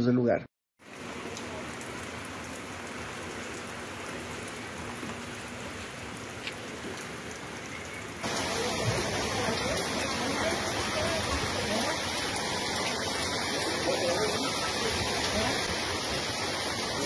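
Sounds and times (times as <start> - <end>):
rain falling: 0.8 - 17.0
rushing water: 0.8 - 17.0.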